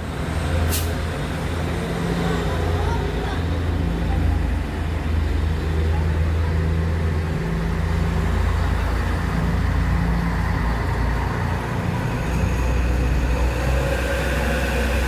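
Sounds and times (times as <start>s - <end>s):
road traffic: 0.0s - 15.0s
truck engine droning: 0.0s - 15.0s.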